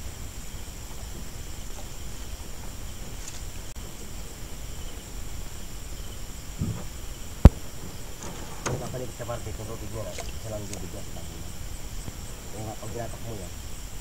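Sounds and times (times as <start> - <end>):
crickets trilling: 0.0 - 14.0
low steady rumble: 0.0 - 14.0.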